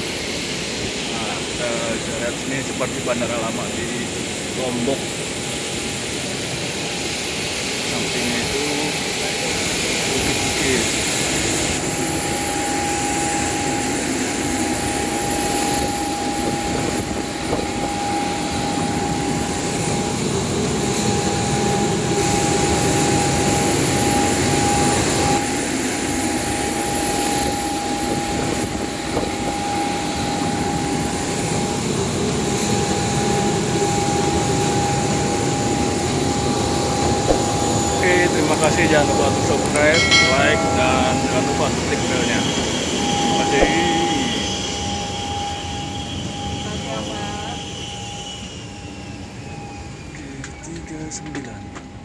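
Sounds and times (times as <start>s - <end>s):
jet airliner rush and whine: 0.0s - 52.0s.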